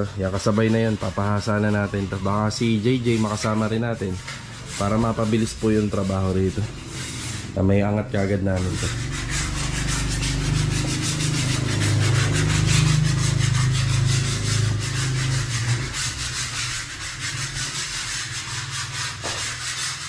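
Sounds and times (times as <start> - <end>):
hand sanding wood: 0.0 - 20.0.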